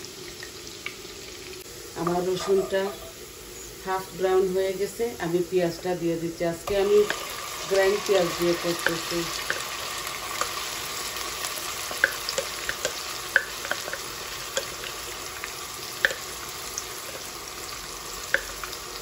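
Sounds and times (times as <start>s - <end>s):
oil sizzling in a pan: 0.0s - 19.0s.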